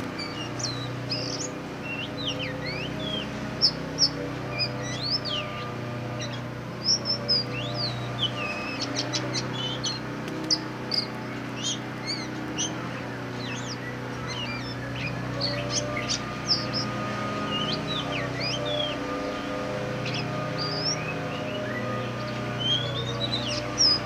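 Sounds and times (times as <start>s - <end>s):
bird singing whistled notes: 0.0s - 24.0s
steady low hum: 0.0s - 24.0s.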